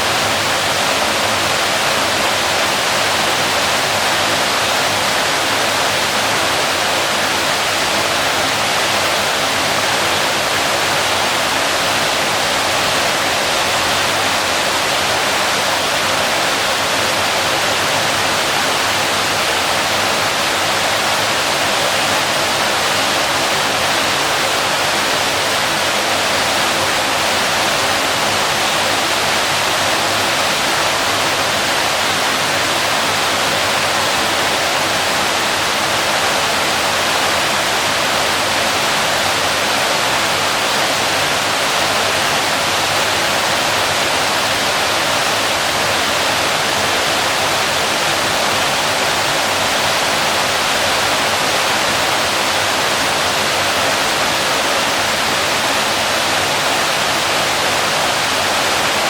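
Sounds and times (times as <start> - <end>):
waterfall splashing: 0.0 - 59.0.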